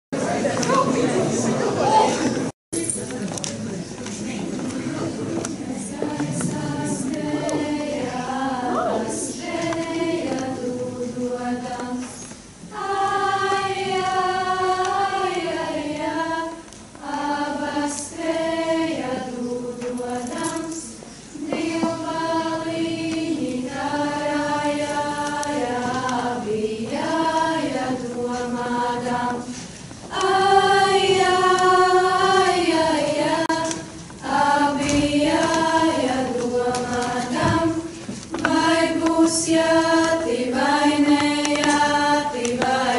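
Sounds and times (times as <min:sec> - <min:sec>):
choir singing slow song: 0:04.8 - 0:42.9.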